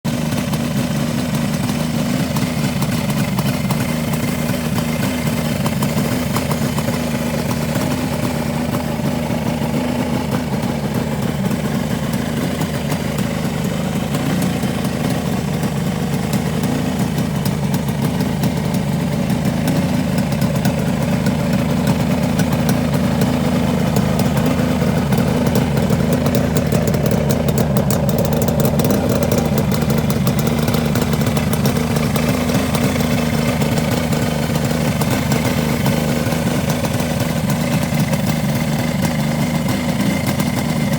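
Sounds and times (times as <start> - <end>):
two-stroke motorcycle engine idling: 0.0 - 40.9.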